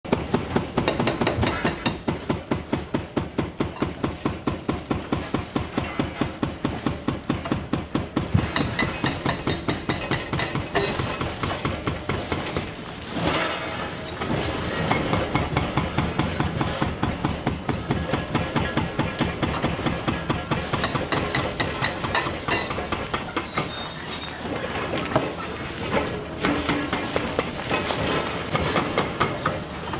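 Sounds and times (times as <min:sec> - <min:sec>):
hydraulic breaker hammering concrete: 0:00.1 - 0:23.8, 0:26.4 - 0:29.9.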